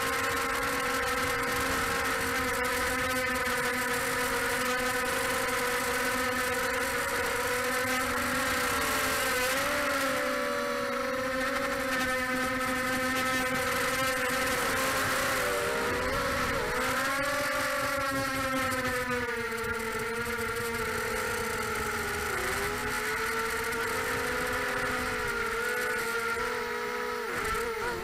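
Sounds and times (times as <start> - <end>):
quadcopter motors buzzing whine: 0.0 - 28.0.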